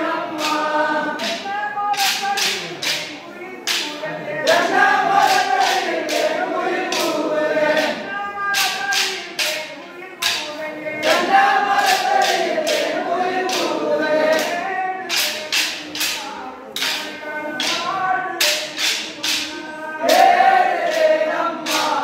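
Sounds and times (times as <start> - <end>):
group singing folk song: 0.0 - 22.0
sticks clacking in rhythm: 0.0 - 22.0.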